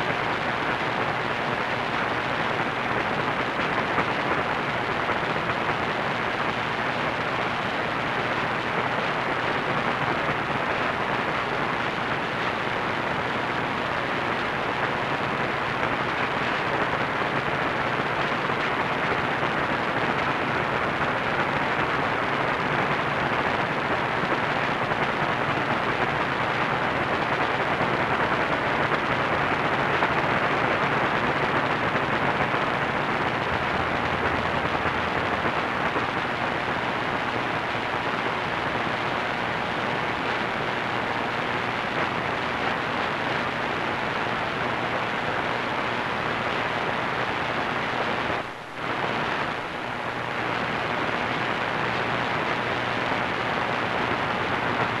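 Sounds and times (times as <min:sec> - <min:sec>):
radio hiss and static: 0:00.0 - 0:55.0.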